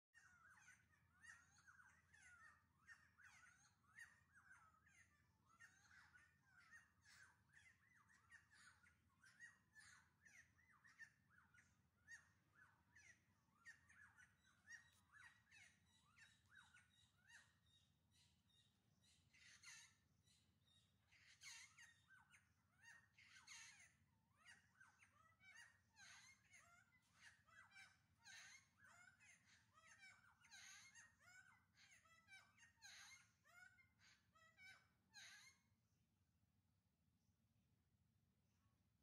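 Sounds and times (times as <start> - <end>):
birds calling: 0.2 - 35.7.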